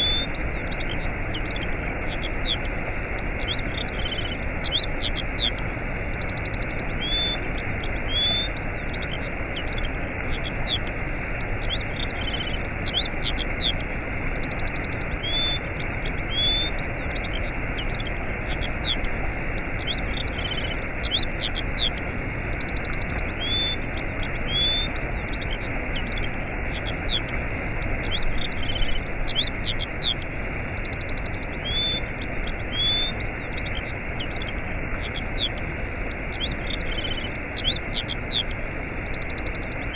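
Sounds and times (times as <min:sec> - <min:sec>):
small birds chirping and trilling: 0:00.0 - 0:39.9
waterfall rushing: 0:00.0 - 0:39.9.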